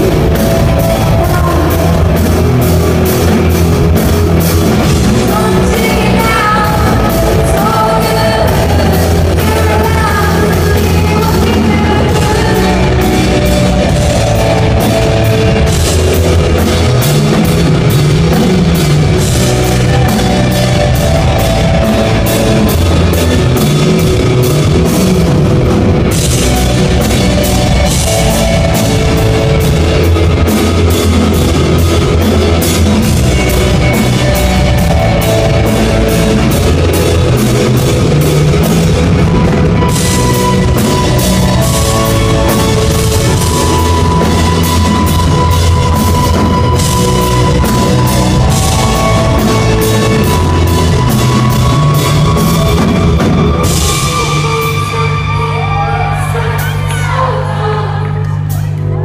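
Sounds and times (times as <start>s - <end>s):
cymbals struck rapidly: 0.0s - 55.8s
drum kit: 0.0s - 56.9s
electric guitar: 0.0s - 59.0s.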